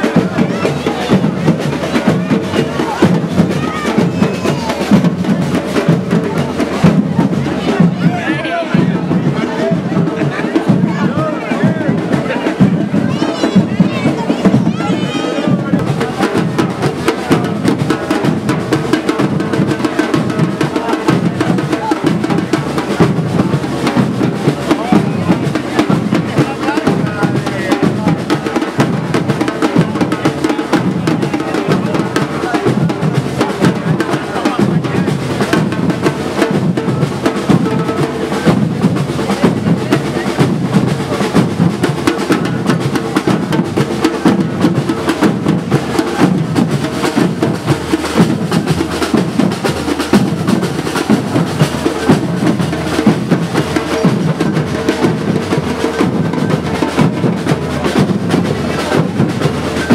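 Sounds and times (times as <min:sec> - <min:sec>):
drums beating: 0:00.0 - 0:59.9.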